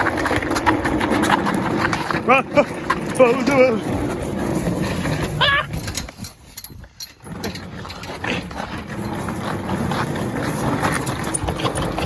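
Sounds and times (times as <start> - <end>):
chair casters rolling on rough ground: 0.0 - 12.0.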